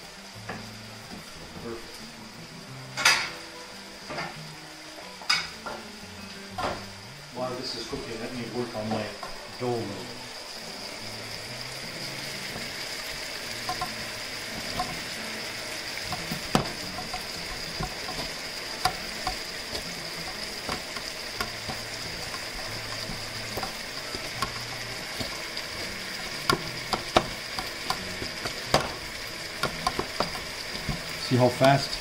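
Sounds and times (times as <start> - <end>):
vegetables sizzling in a pan: 0.0 - 32.0.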